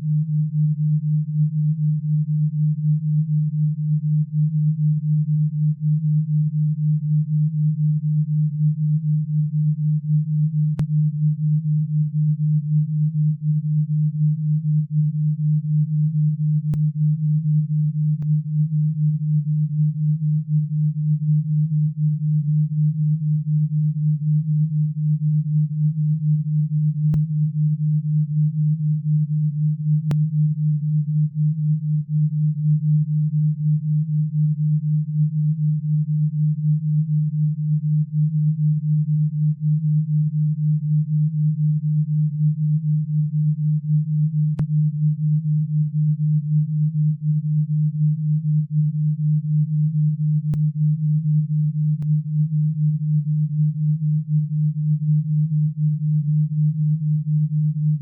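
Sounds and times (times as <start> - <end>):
pulsing low sine tone: 0.0 - 58.0.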